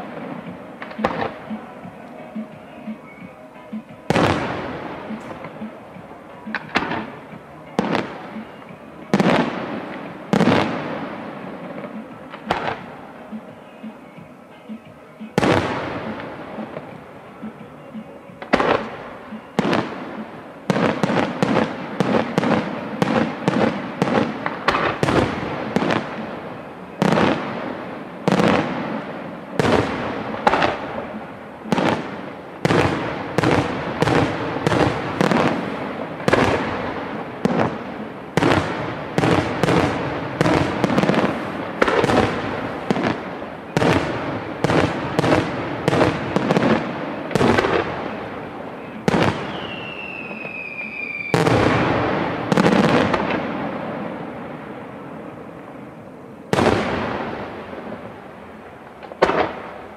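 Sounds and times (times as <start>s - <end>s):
firework shells bursting: 0.0s - 54.4s.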